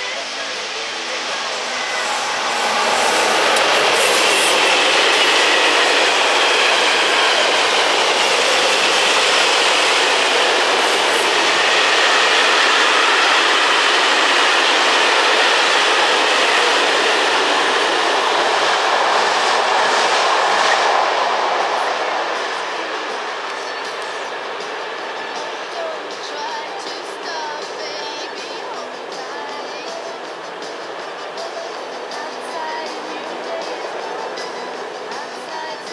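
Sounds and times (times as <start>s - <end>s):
train wheels rushing on rail: 0.0s - 35.9s.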